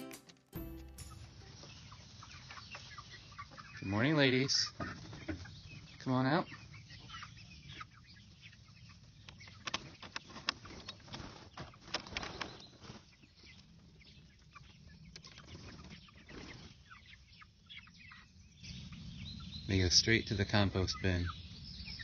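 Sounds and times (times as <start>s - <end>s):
young chickens clucking: 1.4s - 22.0s.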